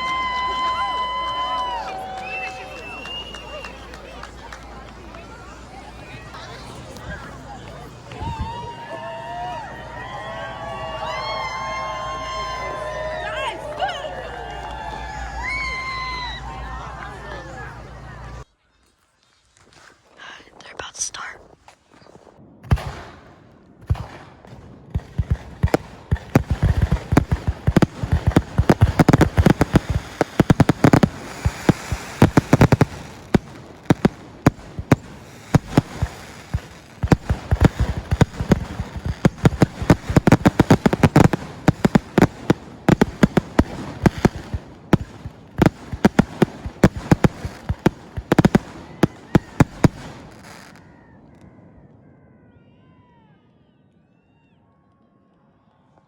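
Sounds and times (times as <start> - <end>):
fireworks bangs and crackles: 0.0 - 18.4, 20.3 - 51.6.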